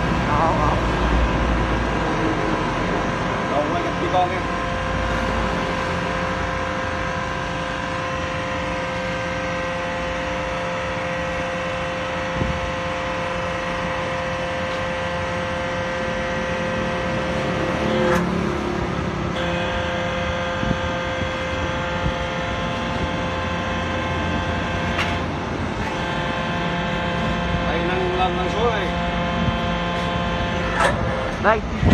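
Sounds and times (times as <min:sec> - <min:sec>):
hydraulic pump motor whining: 0:00.0 - 0:31.9.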